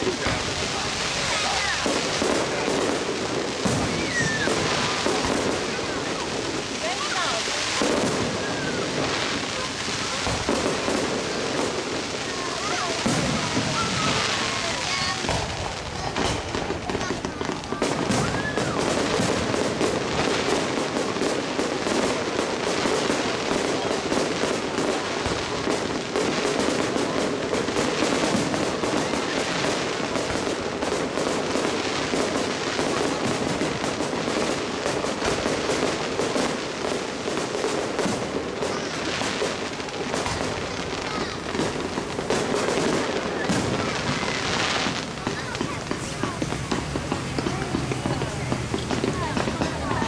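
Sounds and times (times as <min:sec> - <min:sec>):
fireworks crackling bangs: 0:00.0 - 0:50.0.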